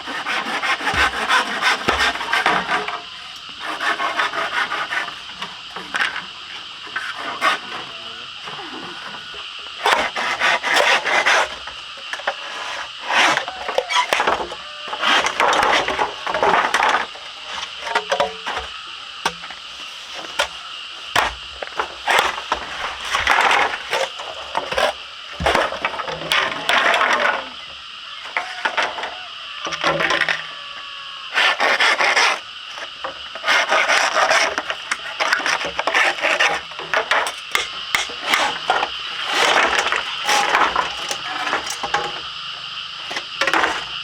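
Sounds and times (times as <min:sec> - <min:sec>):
tool rasping on bamboo: 0:00.0 - 0:06.2, 0:06.8 - 0:09.2, 0:09.8 - 0:25.8, 0:31.3 - 0:42.2.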